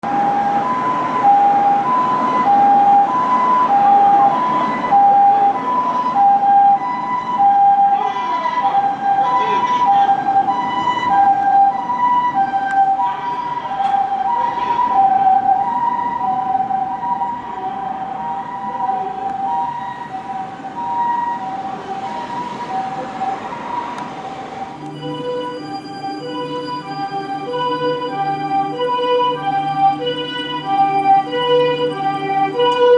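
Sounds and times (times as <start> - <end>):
road traffic noise: 0.0 - 32.9
two-tone ambulance siren: 0.0 - 32.9.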